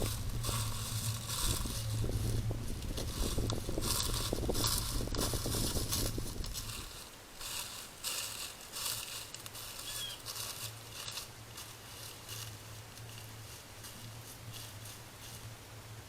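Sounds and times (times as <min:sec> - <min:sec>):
steady low hum: 0:00.0 - 0:16.0
turkeys rustling and scratching: 0:00.0 - 0:16.0.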